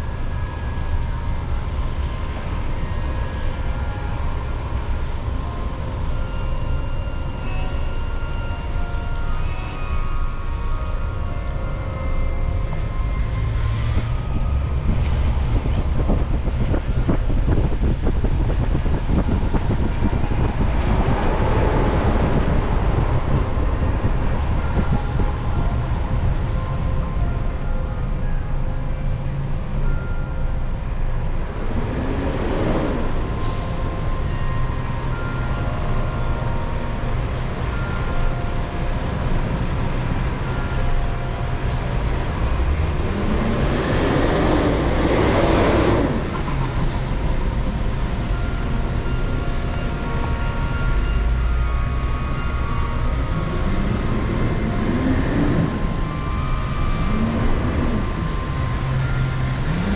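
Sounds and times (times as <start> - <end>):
engine and tyres rumbling: 0.0 - 59.9
rising engine whine: 0.0 - 59.9.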